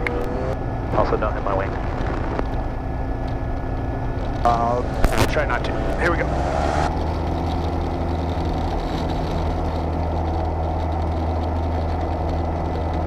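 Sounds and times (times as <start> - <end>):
propeller plane engine: 0.0 - 13.0.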